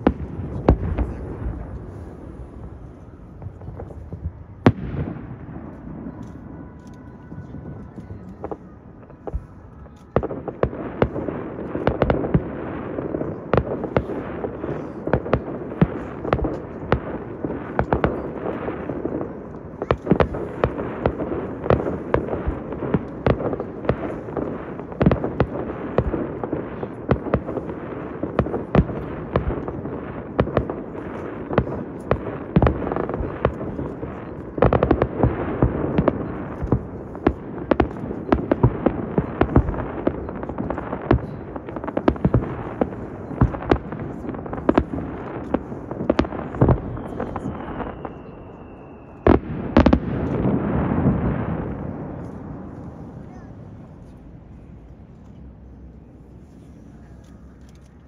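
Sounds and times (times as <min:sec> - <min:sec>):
fireworks bangs: 0:00.0 - 0:57.1.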